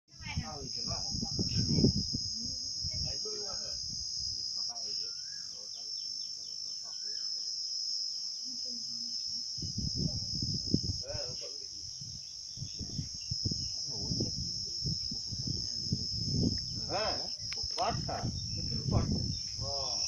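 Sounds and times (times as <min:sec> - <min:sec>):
high-pitched insect drone: 0:00.1 - 0:20.0
voices in background: 0:00.1 - 0:20.0.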